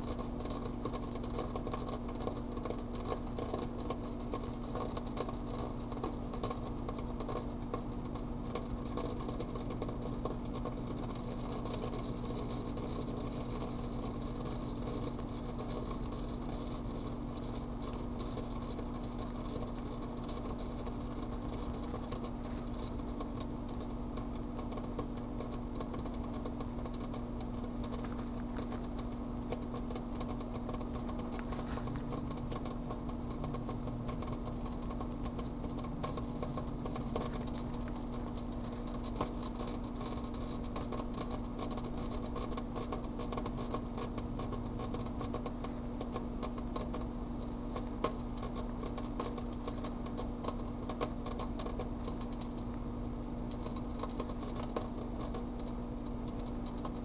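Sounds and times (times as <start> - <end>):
microwave oven humming: 0.0 - 57.0
sharp electric snaps: 0.0 - 57.0
tinfoil arcing and crackling: 0.0 - 57.0.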